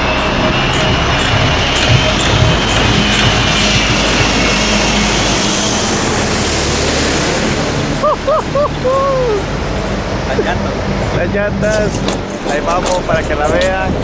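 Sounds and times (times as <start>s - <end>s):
jet airliner engines roaring: 0.0s - 14.0s.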